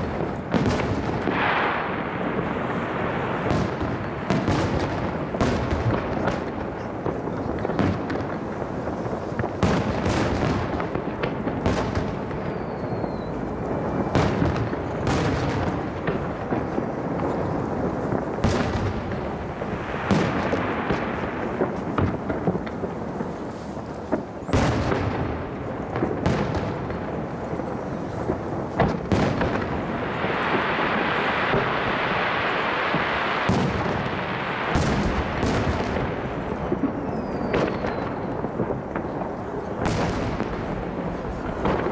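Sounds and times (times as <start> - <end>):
fireworks bursting with sharp bangs: 0.0 - 41.9
steady hiss: 0.0 - 41.9.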